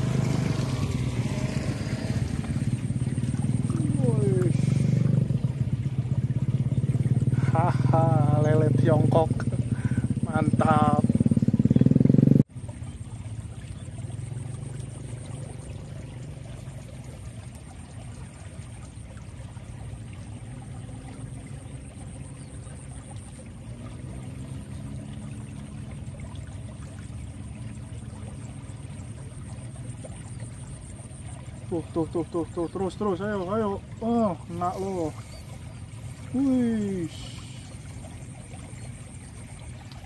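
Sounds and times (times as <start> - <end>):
water running over rocks: 0.0 - 40.0.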